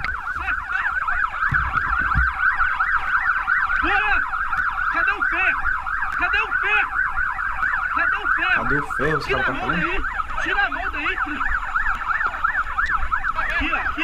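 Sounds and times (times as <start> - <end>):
police siren yelping: 0.0 - 14.0.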